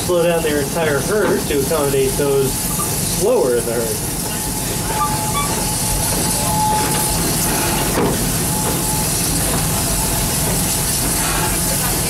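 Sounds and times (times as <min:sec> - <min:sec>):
train engine and wheels rumbling: 0:00.0 - 0:12.0.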